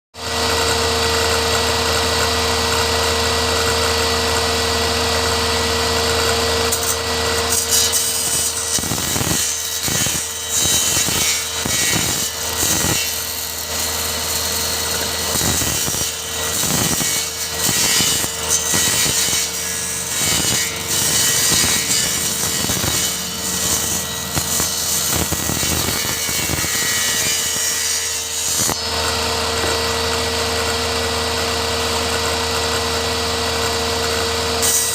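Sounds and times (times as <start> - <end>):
circular saw cutting laminate: 0.2 - 34.9
circular saw whining: 0.2 - 34.9.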